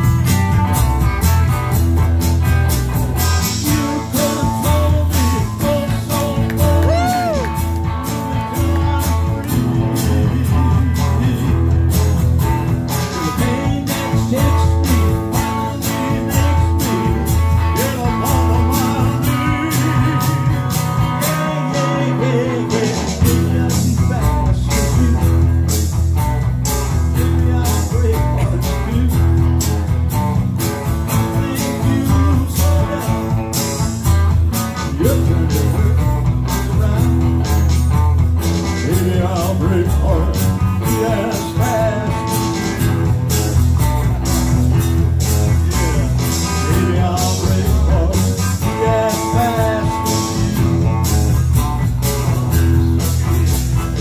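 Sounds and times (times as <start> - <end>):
live band playing: 0.0 - 54.0
man singing: 3.1 - 29.8, 31.0 - 44.2, 45.0 - 54.0.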